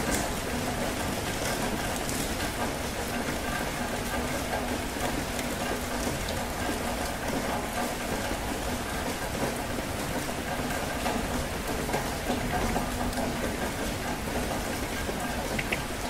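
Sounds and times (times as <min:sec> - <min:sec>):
rain splashing on surfaces: 0:00.0 - 0:16.0.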